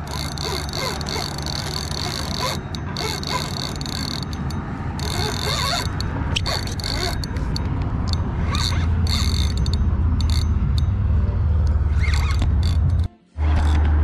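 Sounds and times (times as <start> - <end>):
fishing reel gears whirring and clicking: 0.0 - 11.0, 11.6 - 13.8.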